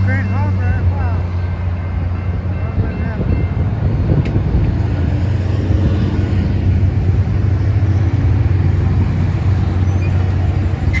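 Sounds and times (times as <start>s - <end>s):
low rumble of vehicles: 0.0s - 11.0s.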